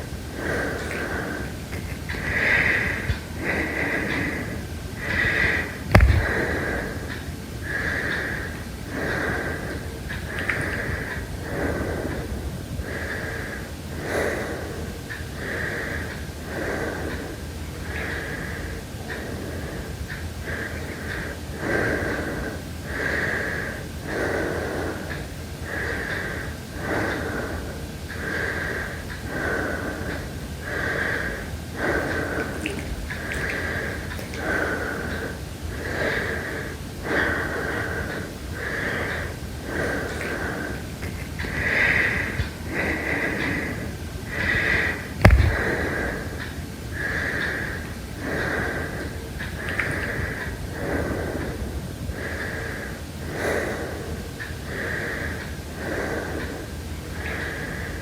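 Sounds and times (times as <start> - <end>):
heavy wheezing breathing: 0.0 - 58.0.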